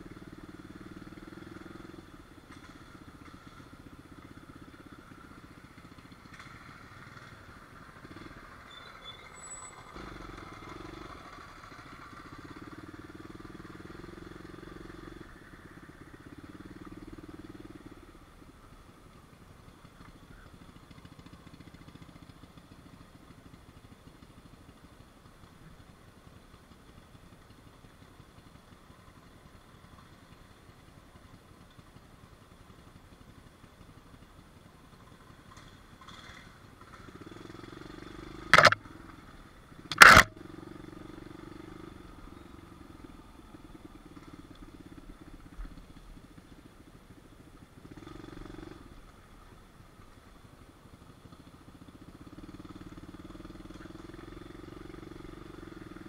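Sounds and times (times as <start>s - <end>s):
small motorbike engine running: 0.0s - 56.0s.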